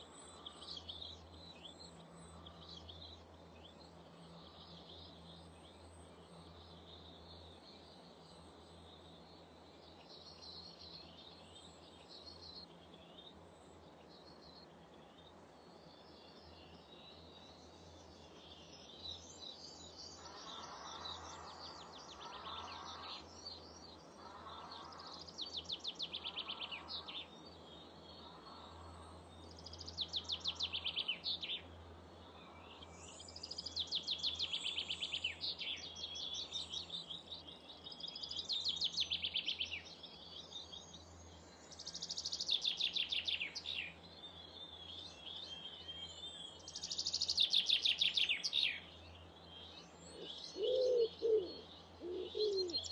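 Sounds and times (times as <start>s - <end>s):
songbirds trilling: 0.0s - 52.9s.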